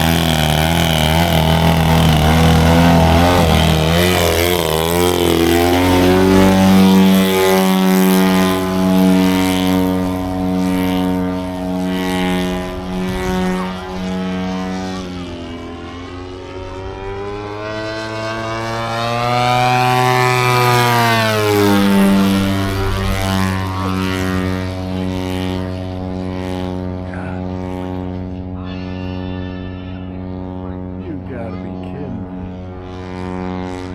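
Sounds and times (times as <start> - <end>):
model airplane engine: 0.0 - 33.9.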